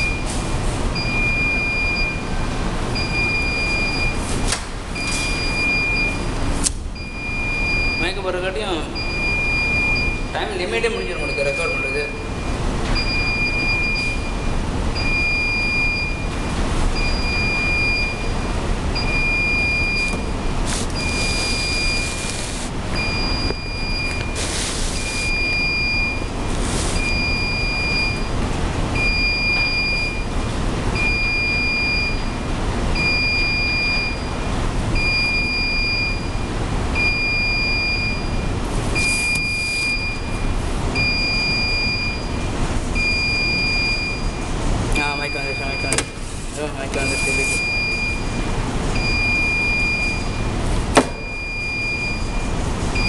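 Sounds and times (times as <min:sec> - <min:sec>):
loud background noise: 0:00.0 - 0:53.0.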